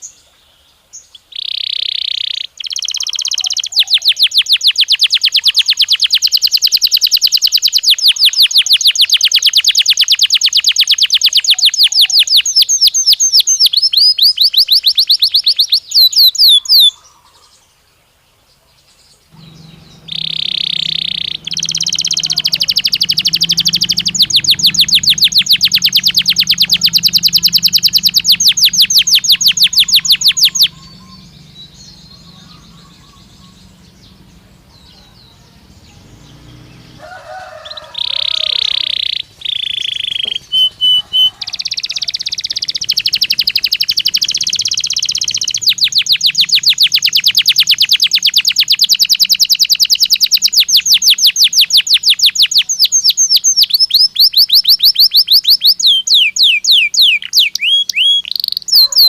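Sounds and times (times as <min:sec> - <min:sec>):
canary singing trills: 0:00.0 - 0:17.8, 0:19.1 - 0:59.0.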